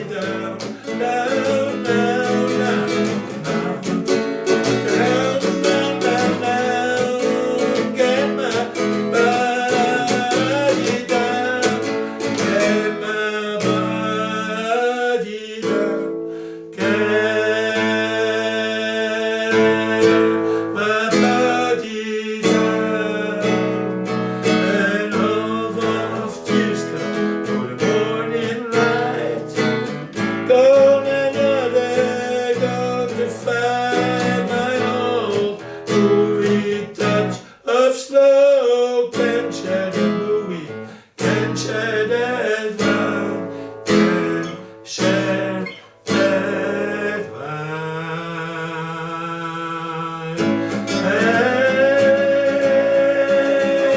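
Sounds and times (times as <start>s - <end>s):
acoustic guitar strummed and picked: 0.0s - 53.9s.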